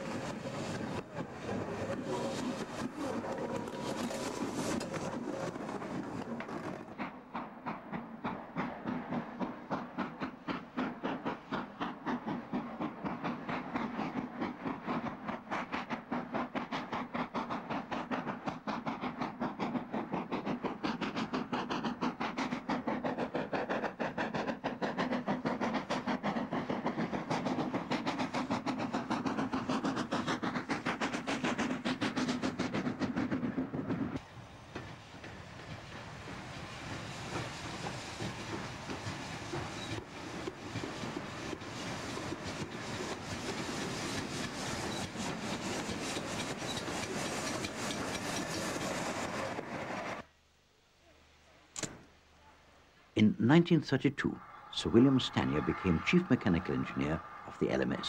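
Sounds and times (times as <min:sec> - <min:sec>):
steam locomotive exhaust beating: 0:00.0 - 0:50.3.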